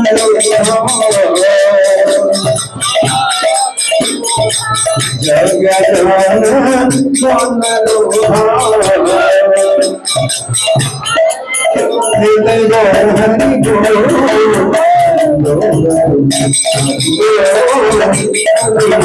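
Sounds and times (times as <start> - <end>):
man chanting into a microphone: 0.0 - 3.8, 4.6 - 10.2, 11.7 - 19.0
percussion beat: 0.0 - 19.0.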